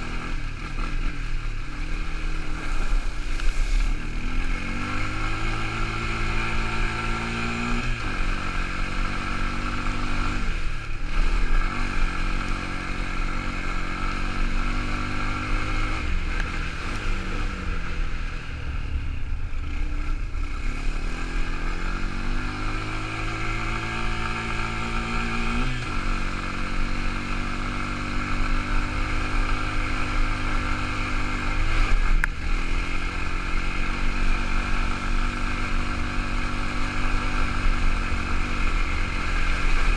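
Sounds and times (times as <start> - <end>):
quad bike engine revving: 0.0 - 18.6, 19.6 - 39.9.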